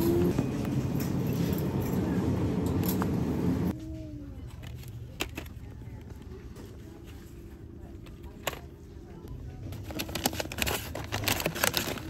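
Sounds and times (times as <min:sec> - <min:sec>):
quiet store background: 0:00.0 - 0:12.0
rumbling grocery handling noise: 0:00.0 - 0:12.0.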